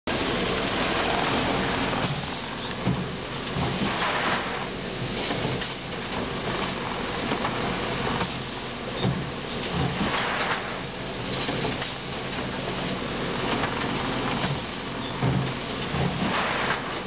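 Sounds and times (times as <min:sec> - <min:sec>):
machine mechanical hum: 0:00.1 - 0:17.0.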